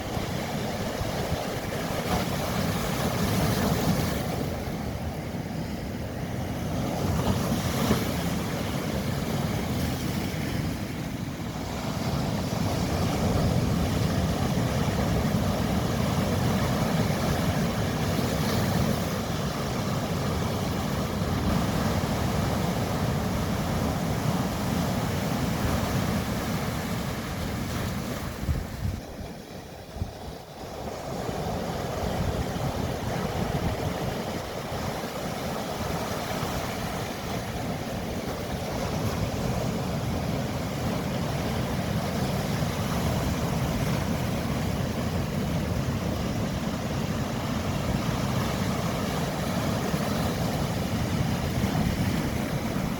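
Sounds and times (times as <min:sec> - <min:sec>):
sea waves washing in: 0:00.0 - 0:52.9.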